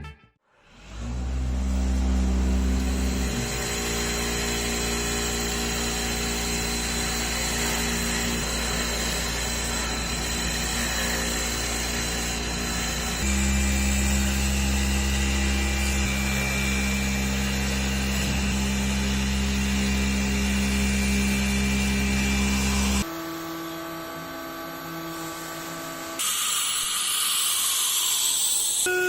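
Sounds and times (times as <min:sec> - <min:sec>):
woodworking machine motor running: 0:00.7 - 0:28.2
hissing machine noise: 0:00.8 - 0:29.0.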